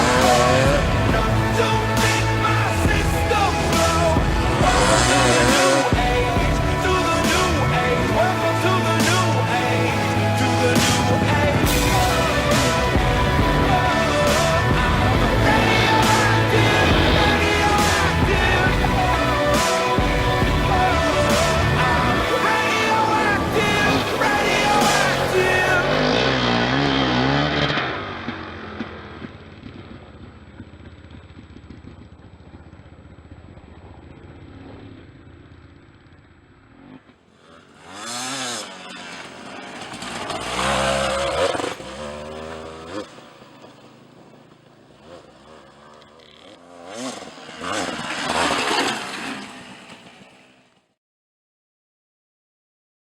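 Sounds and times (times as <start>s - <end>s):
dirt bike engines revving: 0.0s - 50.8s.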